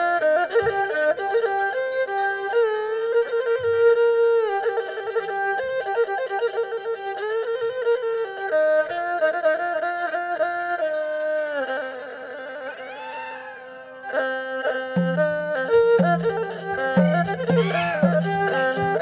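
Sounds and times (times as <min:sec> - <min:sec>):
folk ensemble playing: 0:00.0 - 0:11.5, 0:14.1 - 0:19.0.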